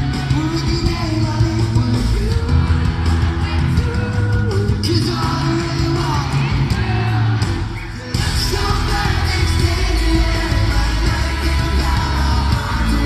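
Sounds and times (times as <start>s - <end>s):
lead vocal singing: 0.0s - 13.0s
live pop-punk band playing: 0.0s - 13.0s.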